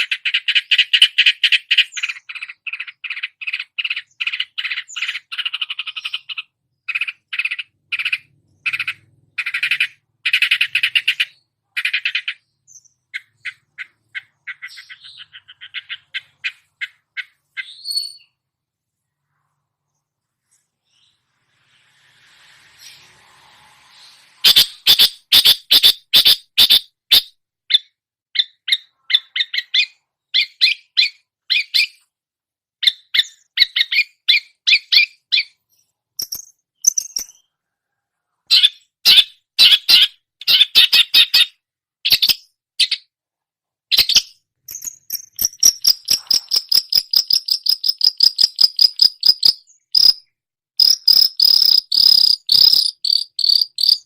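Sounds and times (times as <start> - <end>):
bird chirping and trilling: 0.0 - 18.4, 19.2 - 32.1, 32.8 - 37.6, 38.4 - 43.1, 43.9 - 54.0.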